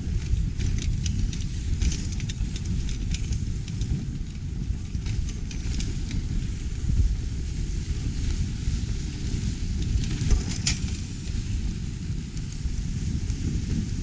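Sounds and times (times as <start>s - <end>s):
sled runners rumbling on snow: 0.0s - 14.0s
snow crackling: 0.0s - 14.0s
wind on microphone: 0.0s - 14.0s.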